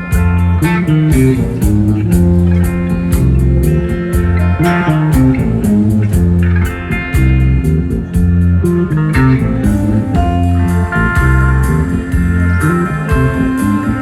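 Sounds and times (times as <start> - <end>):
bass guitar: 0.0 - 14.0
electric guitar lead: 0.0 - 14.0
steady drum beat: 0.0 - 14.0.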